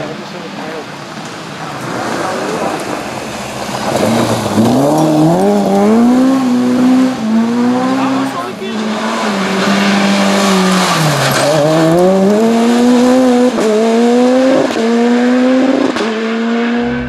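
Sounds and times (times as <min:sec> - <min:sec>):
rally car engine accelerating: 0:01.2 - 0:17.0.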